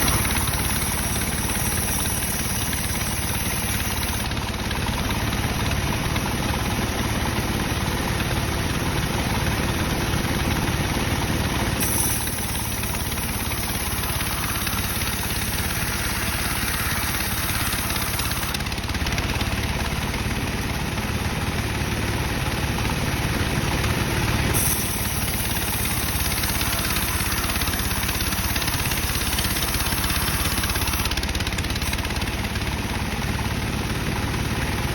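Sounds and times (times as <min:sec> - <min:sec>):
band saw cutting timber: 0:00.0 - 0:06.8, 0:07.4 - 0:34.9.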